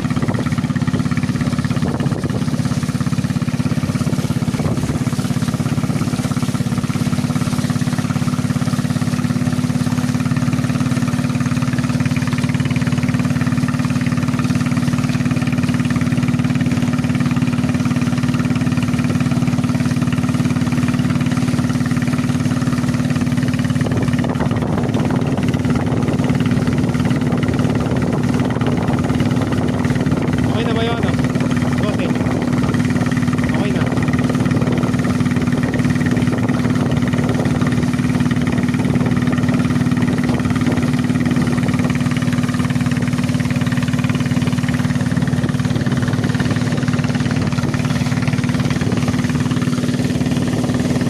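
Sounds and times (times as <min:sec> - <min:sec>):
boat engine running: 0:00.0 - 0:51.0.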